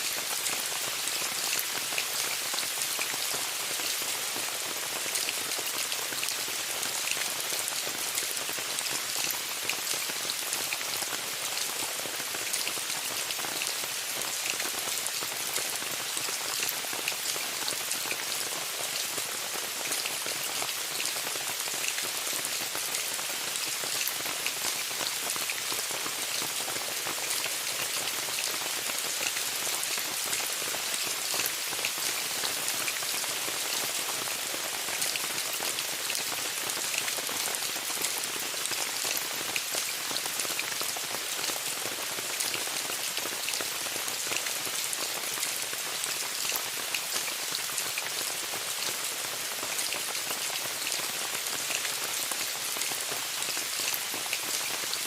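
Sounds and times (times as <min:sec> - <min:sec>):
rain on a tent: 0:00.0 - 0:55.0.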